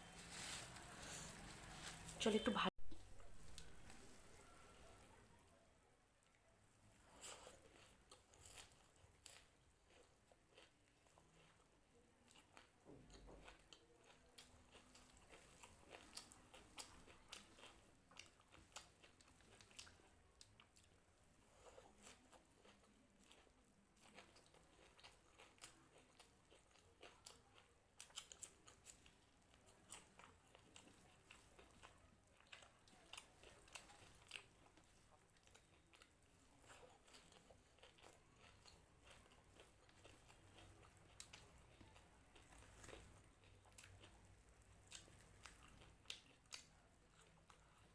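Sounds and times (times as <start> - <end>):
chewing crisp puffed rice: 0.0 - 47.9.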